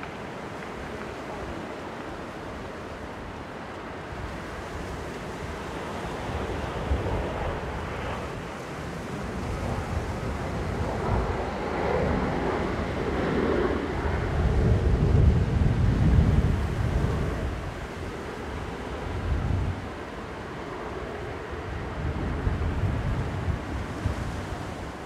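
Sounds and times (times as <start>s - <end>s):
jet engines running: 0.0s - 25.0s
wind buffeting microphone: 4.0s - 25.0s.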